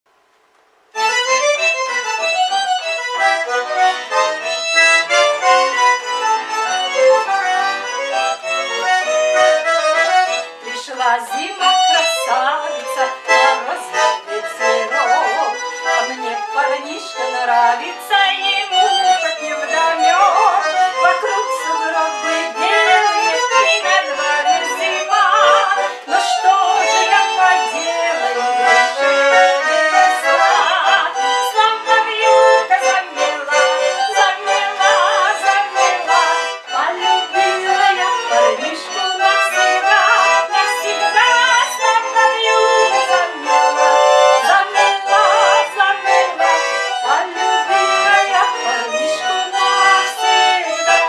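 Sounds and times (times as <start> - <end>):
accordion playing: 0.9 - 51.0.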